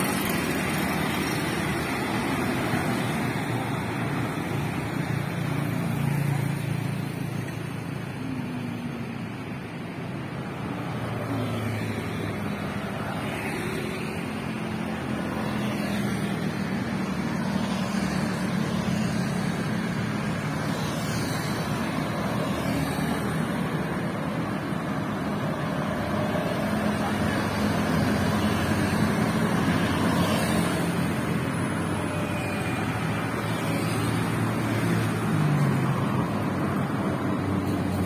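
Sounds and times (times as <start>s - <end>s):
cars and motorcycles driving: 0.0s - 38.0s.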